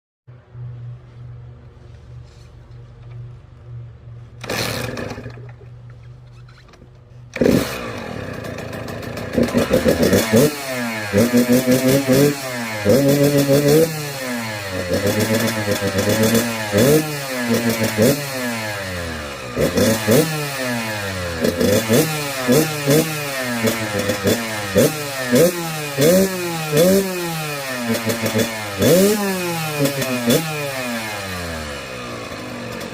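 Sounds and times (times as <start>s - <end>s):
dirt bike engine revving: 4.4s - 5.5s, 7.3s - 32.9s.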